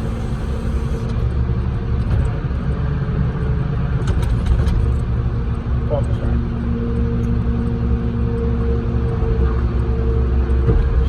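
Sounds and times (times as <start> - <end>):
heavy machine engine rumbling: 0.0 - 11.0.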